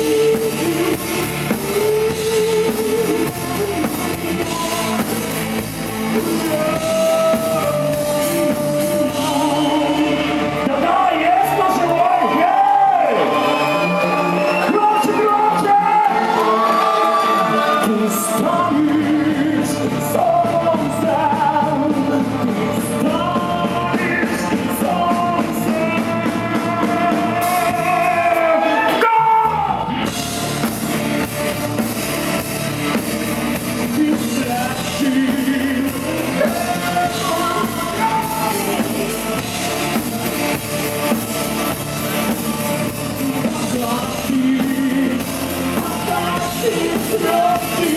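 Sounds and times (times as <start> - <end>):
person singing: 0.0 - 31.9, 32.9 - 47.9
rock band playing live: 0.0 - 47.9.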